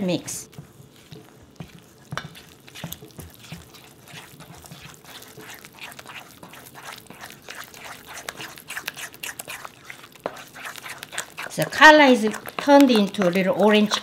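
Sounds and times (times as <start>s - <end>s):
spoon stirring batter in metal bowl: 0.0s - 14.0s.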